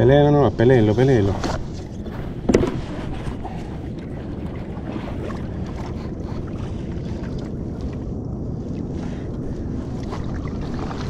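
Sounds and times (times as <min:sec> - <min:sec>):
kayak on water: 0:00.0 - 0:11.0
wind on microphone: 0:00.0 - 0:11.0.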